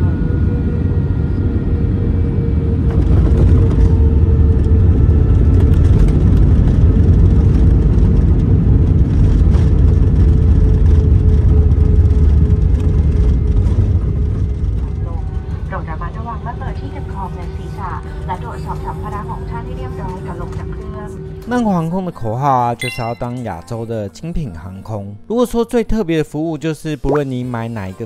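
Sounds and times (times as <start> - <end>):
jet engines rumbling and whining: 0.0 - 22.7.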